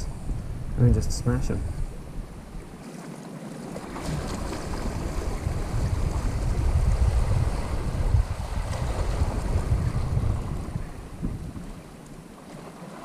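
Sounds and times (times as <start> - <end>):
wind buffeting microphone: 0.0 - 2.9, 3.6 - 12.7
small waves lapping on rocks: 1.4 - 13.0.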